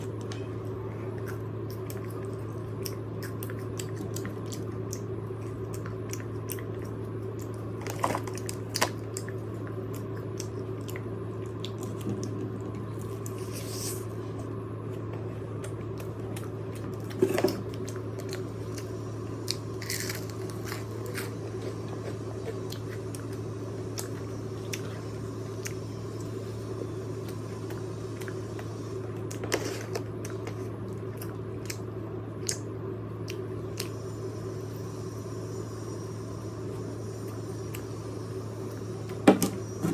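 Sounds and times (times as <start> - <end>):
crunchy bites and chewing: 0.0 - 34.2
steady low hum: 0.0 - 39.9.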